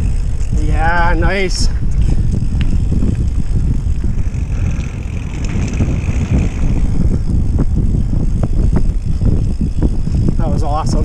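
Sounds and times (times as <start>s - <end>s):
bike clicks and rattles: 0.0s - 11.0s
tyre and wind rumble: 0.0s - 11.0s.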